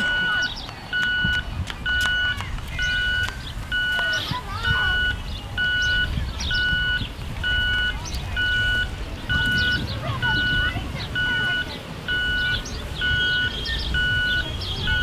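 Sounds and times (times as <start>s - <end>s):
electronic warning beeper: 1.0s - 15.0s.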